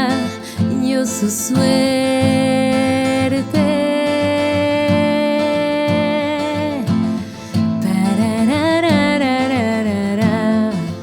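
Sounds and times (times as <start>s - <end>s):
guitar accompaniment: 0.0s - 11.0s
woman singing: 0.0s - 11.0s.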